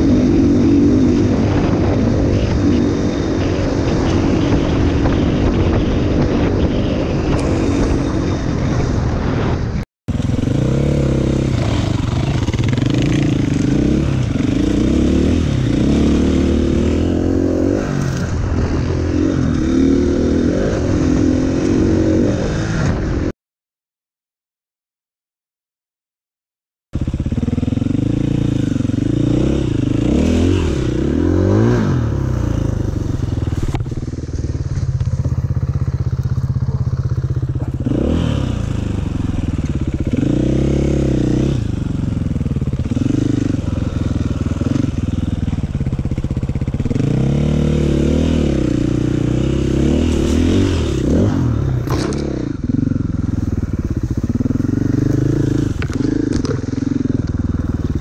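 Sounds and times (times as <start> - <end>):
motorcycle engine revving: 0.0 - 23.3, 27.0 - 58.0.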